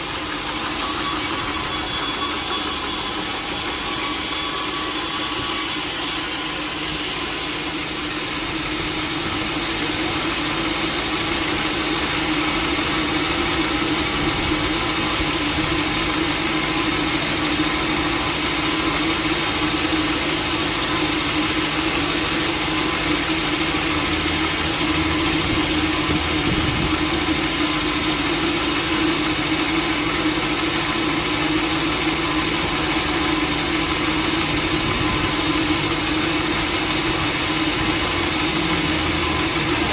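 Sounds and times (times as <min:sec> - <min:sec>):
saw cutting wood: 0:00.0 - 0:39.9
sawmill engine running: 0:00.0 - 0:39.9.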